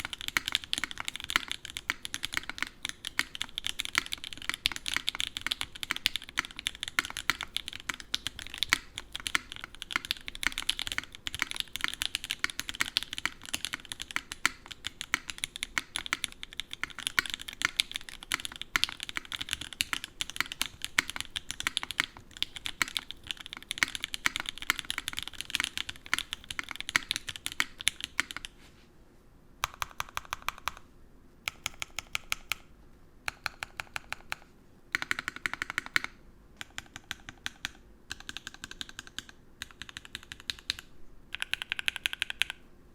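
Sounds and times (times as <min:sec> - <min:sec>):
fast key presses: 0:00.0 - 0:28.6, 0:29.6 - 0:30.8, 0:31.5 - 0:32.7, 0:33.3 - 0:42.6
mechanical keyboard typing: 0:00.0 - 0:28.6, 0:29.6 - 0:30.8, 0:31.5 - 0:32.7, 0:33.3 - 0:42.6.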